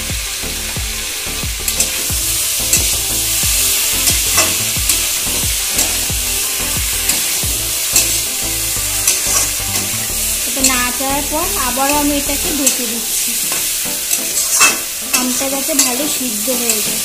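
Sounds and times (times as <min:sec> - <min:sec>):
mango slices sizzling in hot oil: 0:00.0 - 0:17.0
metal spatula scraping pan: 0:01.7 - 0:17.0.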